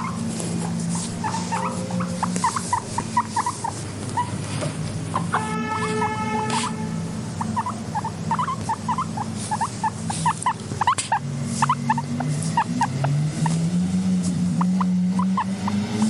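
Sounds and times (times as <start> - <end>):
guinea pigs squeaking: 0.0 - 16.0.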